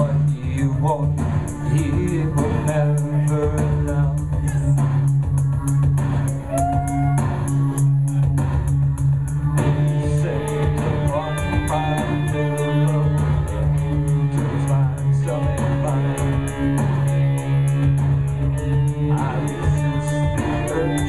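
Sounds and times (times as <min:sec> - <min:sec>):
synthesizer: 0:00.0 - 0:21.0.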